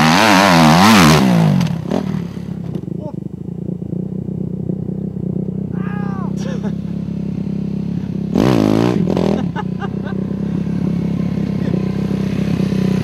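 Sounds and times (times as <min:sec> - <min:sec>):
motocross bike engine running: 0:00.0 - 0:13.0.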